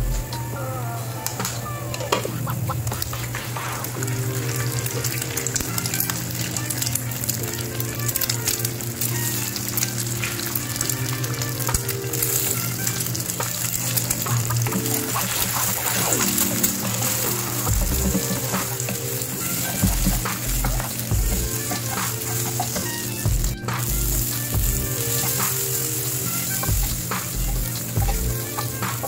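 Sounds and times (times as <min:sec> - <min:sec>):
eggs frying: 0:01.2 - 0:29.0
onions sizzling in oil: 0:03.0 - 0:29.0.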